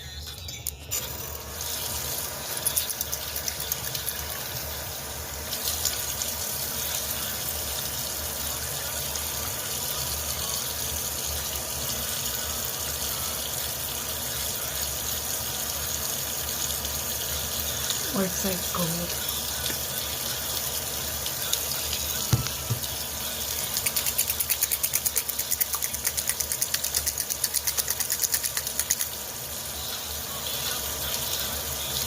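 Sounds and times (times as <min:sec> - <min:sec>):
water running: 0:00.9 - 0:32.0.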